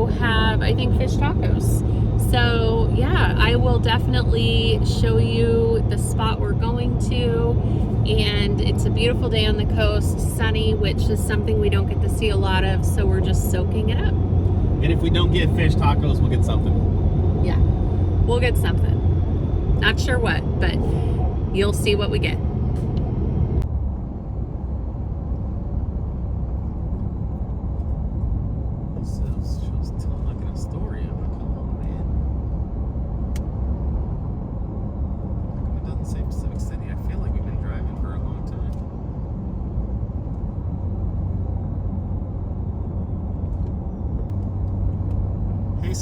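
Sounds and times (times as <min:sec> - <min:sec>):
car road and engine rumble: 0:00.0 - 0:46.0.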